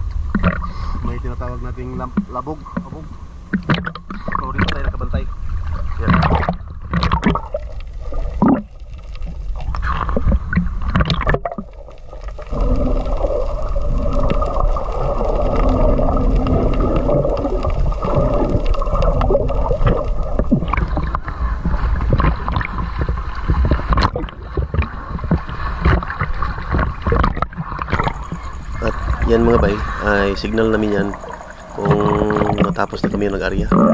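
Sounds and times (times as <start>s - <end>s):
muffled underwater rush: 0.0s - 33.9s
seawater sloshing and bubbling: 0.0s - 33.9s.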